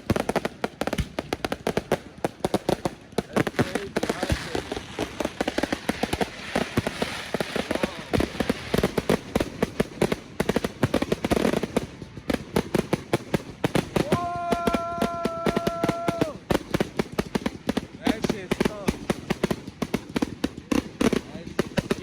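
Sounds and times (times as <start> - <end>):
firework bangs: 0.0 - 22.0
fireworks crackling and popping: 0.0 - 22.0.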